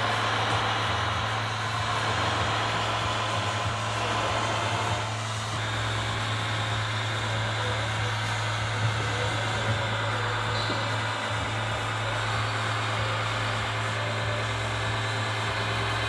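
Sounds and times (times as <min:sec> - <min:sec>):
model truck diesel engine hum: 0:00.0 - 0:16.0.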